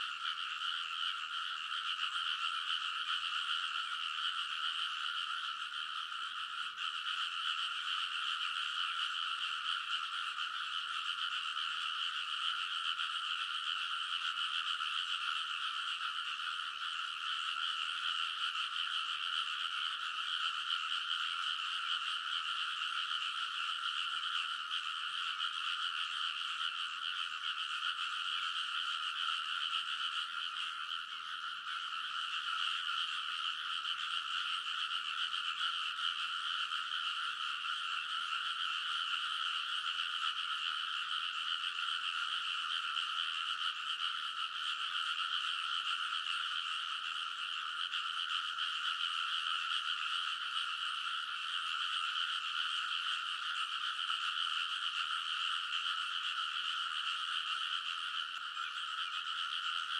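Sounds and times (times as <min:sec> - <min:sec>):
chorus of frogs croaking: 0:00.0 - 0:59.9.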